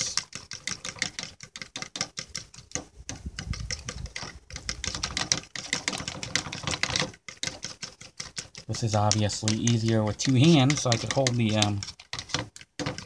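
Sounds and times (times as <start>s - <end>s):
eggs beaten in a bowl: 0.0s - 13.0s.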